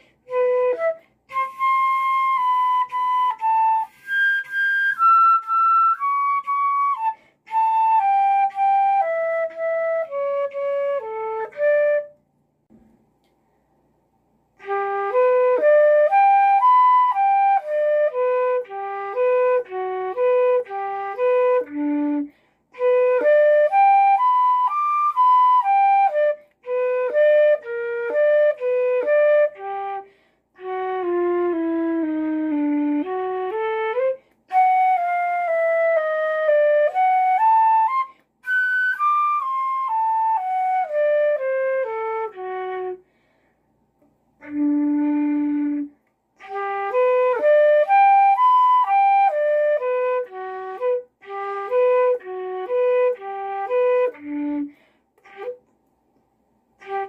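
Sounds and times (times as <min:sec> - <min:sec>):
solo flute playing: 0:00.0 - 0:12.2, 0:14.6 - 0:43.5, 0:44.4 - 0:55.7, 0:56.8 - 0:57.0.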